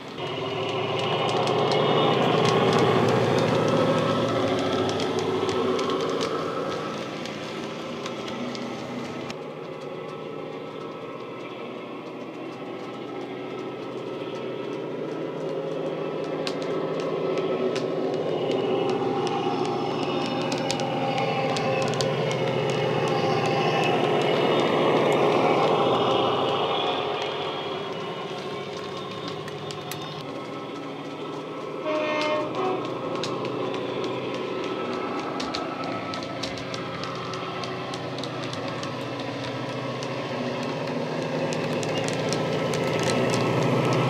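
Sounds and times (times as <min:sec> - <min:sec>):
wheels clicking on track: 0:00.0 - 0:44.0.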